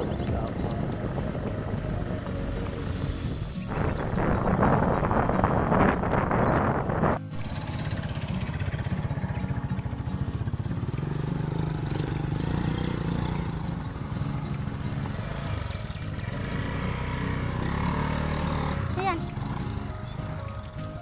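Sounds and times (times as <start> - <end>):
motorcycle engine low rumble: 0.0 - 21.0.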